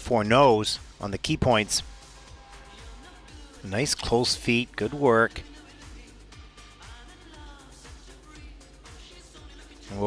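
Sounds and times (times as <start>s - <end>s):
quiet music with steady beat: 0.0s - 10.0s.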